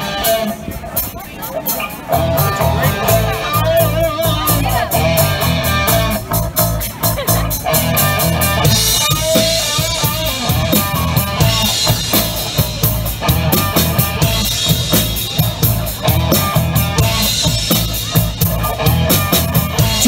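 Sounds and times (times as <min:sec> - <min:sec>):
drum kit steady beat: 0:00.0 - 0:20.0
electric guitar: 0:00.0 - 0:20.0.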